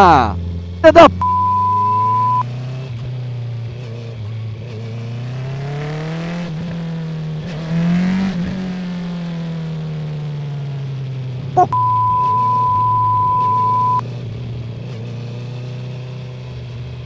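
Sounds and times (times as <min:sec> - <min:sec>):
motorcycle engine accelerating: 0:00.4 - 0:17.0.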